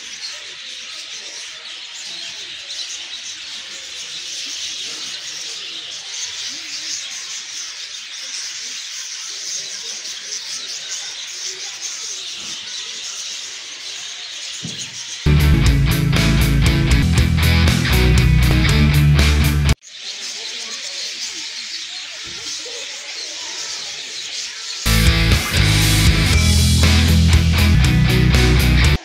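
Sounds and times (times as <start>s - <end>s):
flock of budgerigars chattering: 0.0s - 15.4s, 19.7s - 29.0s.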